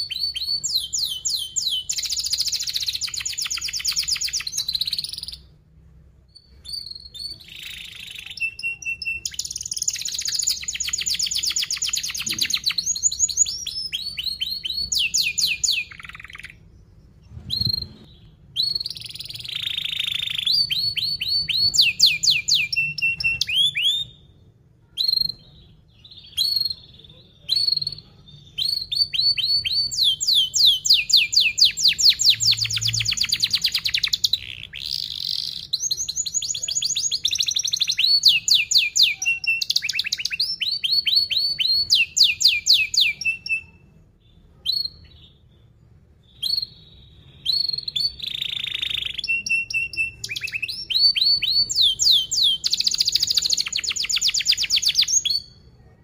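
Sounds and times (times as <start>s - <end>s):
canary singing trills: 0.0s - 55.7s.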